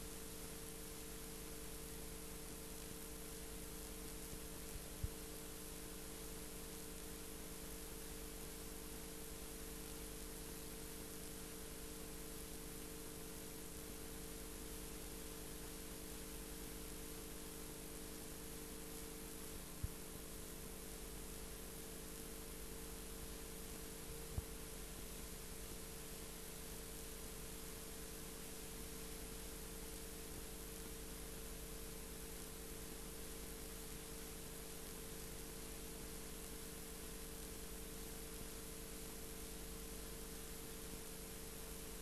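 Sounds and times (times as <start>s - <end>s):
background hiss and hum: 0.0s - 42.0s.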